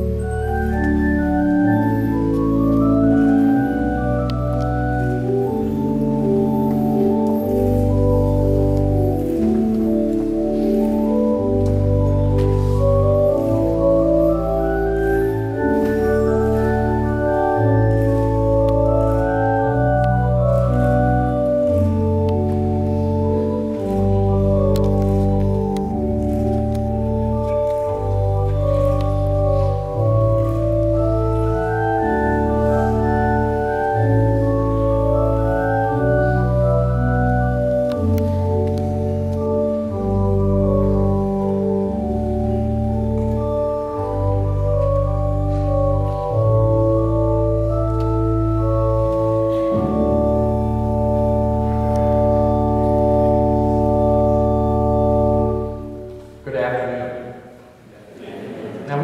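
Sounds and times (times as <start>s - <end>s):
organ playing slow chords: 0.0s - 57.6s.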